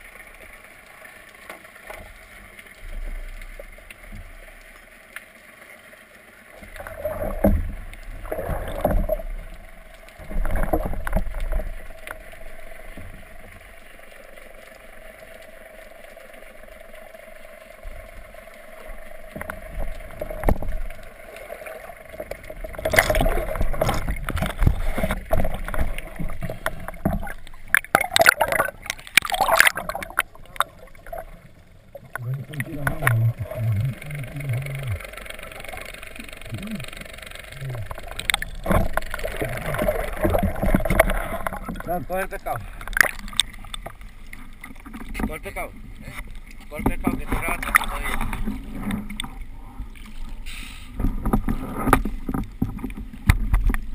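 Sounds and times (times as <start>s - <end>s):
faint steady hum: 0.0s - 53.9s
water rushing and sloshing: 0.0s - 53.9s.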